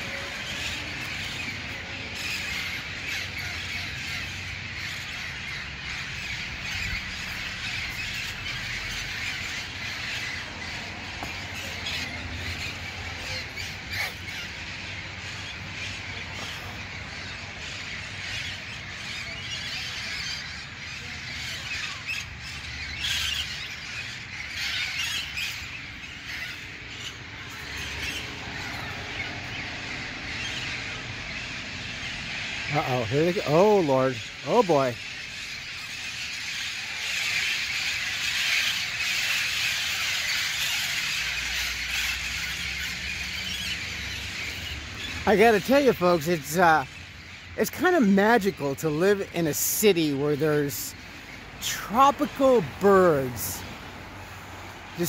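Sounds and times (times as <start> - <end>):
parrots squawking: 0.0 - 55.0.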